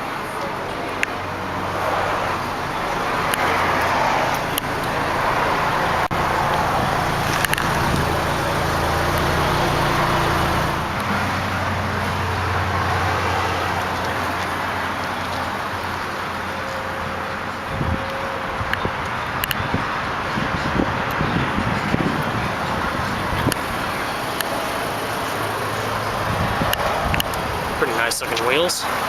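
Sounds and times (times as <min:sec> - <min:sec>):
car engine idling: 0:00.0 - 0:29.0
road traffic hiss: 0:00.0 - 0:29.0.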